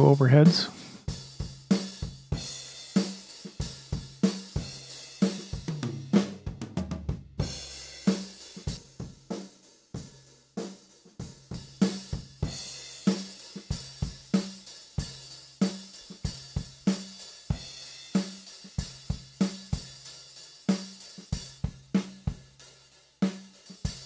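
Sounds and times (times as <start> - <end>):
drum kit playing a beat: 0.0 - 24.0.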